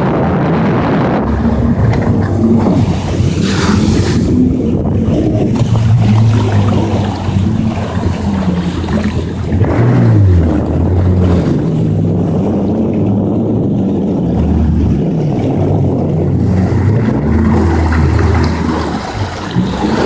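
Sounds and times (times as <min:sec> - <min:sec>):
jet ski engine revving: 0:00.0 - 0:20.0
water rushing: 0:00.0 - 0:20.0.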